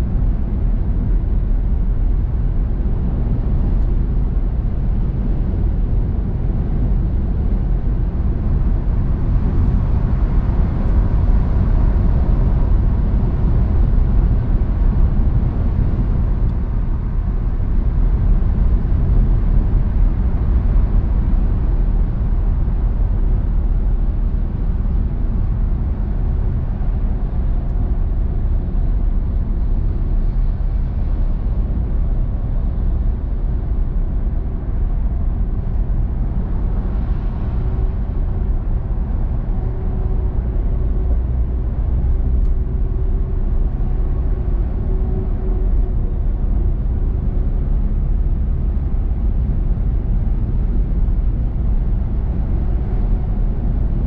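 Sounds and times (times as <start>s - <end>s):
car engine: 0.0s - 54.0s.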